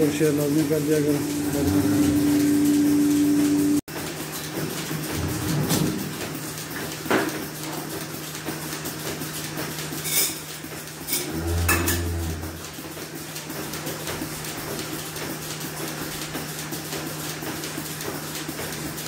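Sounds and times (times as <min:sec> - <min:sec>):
milking machine humming: 0:00.0 - 0:10.0, 0:10.6 - 0:19.0.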